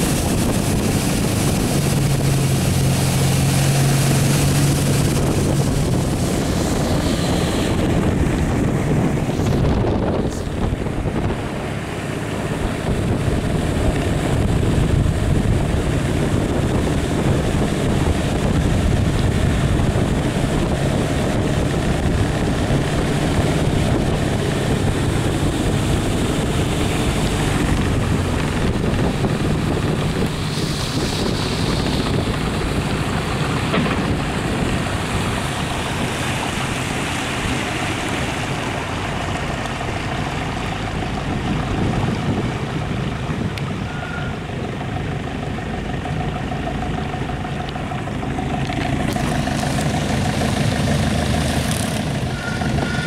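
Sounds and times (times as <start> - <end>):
boat engine running: 0.0 - 53.0
rushing water: 0.0 - 53.0
wind on microphone: 0.0 - 53.0.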